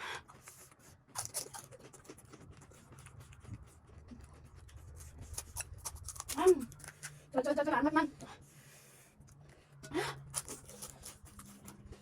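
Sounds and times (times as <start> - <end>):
eating and handling sounds: 0.0 - 12.0.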